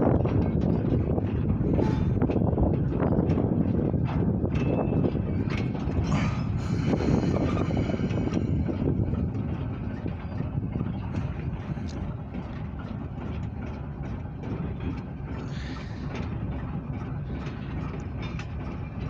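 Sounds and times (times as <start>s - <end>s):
diesel locomotive rumbling: 0.0s - 19.0s
train clicks and knocks: 0.0s - 19.0s.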